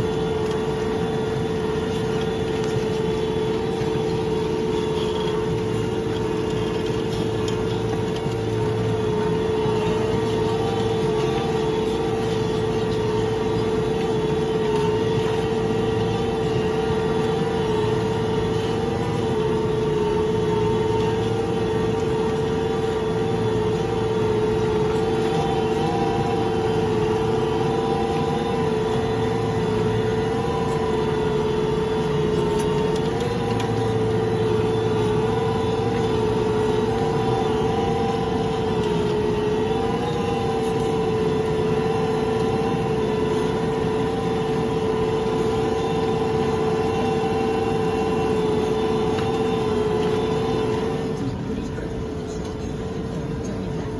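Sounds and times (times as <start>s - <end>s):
tractor engine drone with whine: 0.0s - 53.9s.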